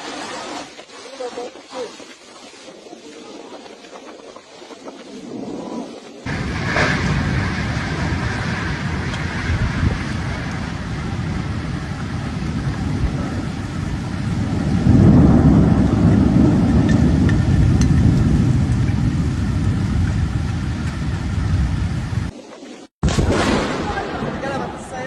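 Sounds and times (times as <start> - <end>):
heavy rain: 0.0 - 25.0
storm wind buffeting microphone: 0.0 - 25.0.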